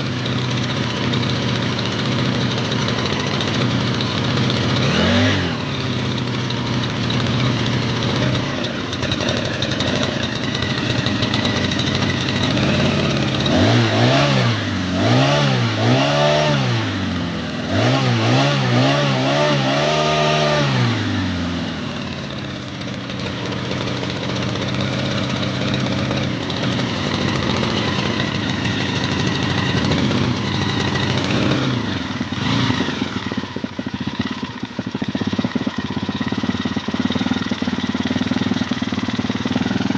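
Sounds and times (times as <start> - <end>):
small engine running and revving: 0.0 - 39.9.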